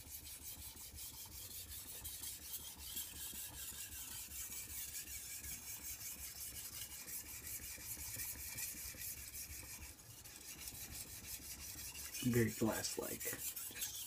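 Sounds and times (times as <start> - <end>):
knife scraping on whetstone: 0.0 - 14.0.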